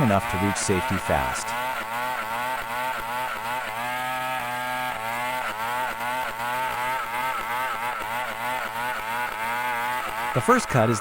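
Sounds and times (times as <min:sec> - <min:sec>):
chainsaw cutting wood: 0:00.0 - 0:10.8.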